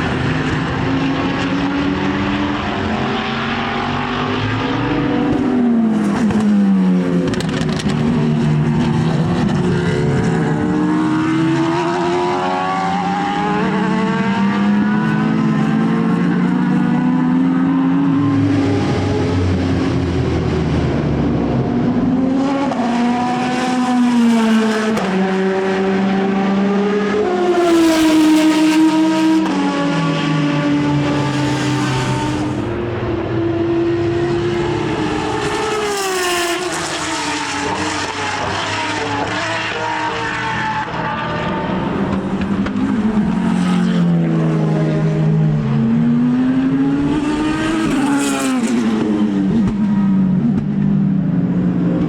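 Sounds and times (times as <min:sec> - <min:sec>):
racing car engine: 0:00.0 - 0:52.0.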